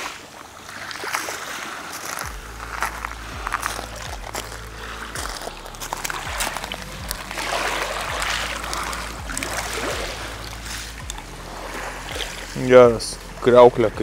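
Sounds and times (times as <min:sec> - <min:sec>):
water trickling over shells: 0:00.0 - 0:13.5
soft background music: 0:00.0 - 0:14.0.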